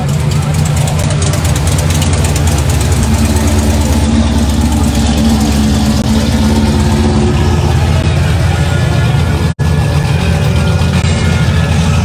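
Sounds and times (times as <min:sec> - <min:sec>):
car engines idling and cruising: 0:00.0 - 0:12.0
steady hum: 0:01.4 - 0:12.0.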